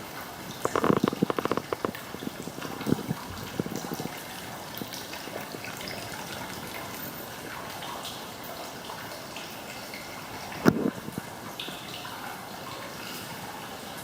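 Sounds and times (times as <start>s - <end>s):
water dripping: 0.0s - 14.0s
water trickling into a bath: 0.0s - 14.0s.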